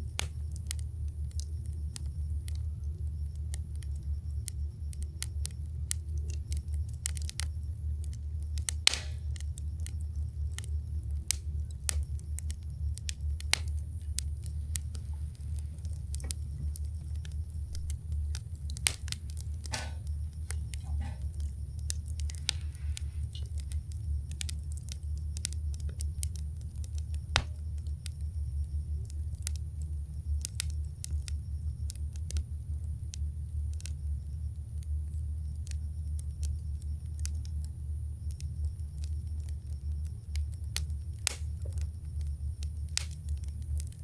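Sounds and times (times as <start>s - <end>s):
campfire crackling: 0.0s - 44.0s
steady low rumble: 0.0s - 44.0s.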